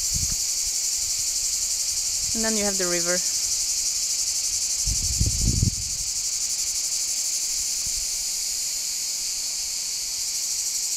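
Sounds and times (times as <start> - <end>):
insects shrilling: 0.0 - 10.9.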